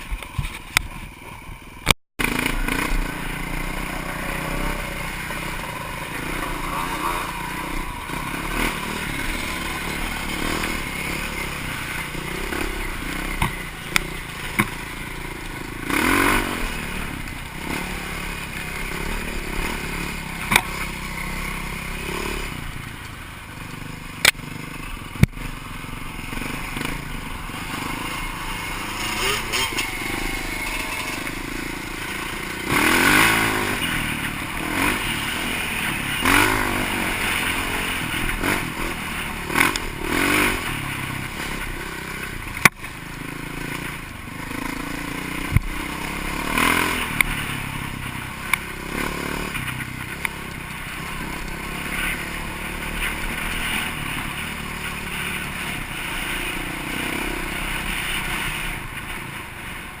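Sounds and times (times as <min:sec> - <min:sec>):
off-road vehicle engine revving: 0:02.2 - 0:22.9, 0:23.6 - 0:59.2.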